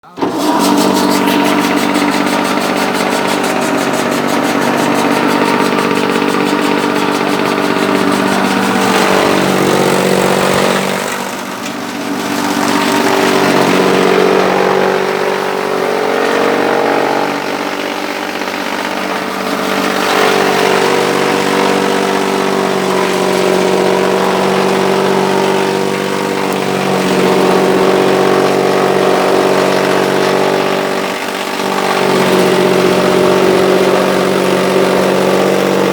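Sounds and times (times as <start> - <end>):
chaff cutter machine hum: 0.0 - 35.9.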